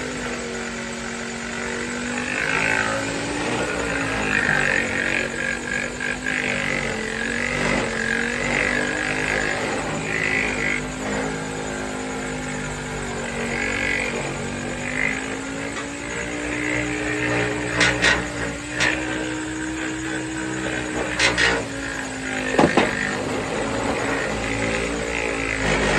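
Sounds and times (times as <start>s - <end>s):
abrasive rasping on metal: 0.0s - 25.9s
power sander motor humming: 0.0s - 25.9s.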